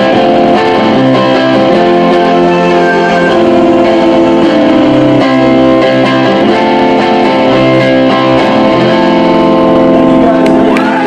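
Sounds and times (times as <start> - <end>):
electric guitar chords: 0.0 - 11.0.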